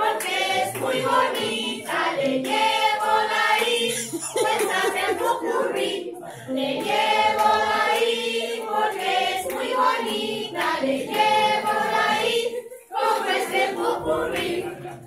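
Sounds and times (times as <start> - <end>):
group of adults singing: 0.0 - 15.0.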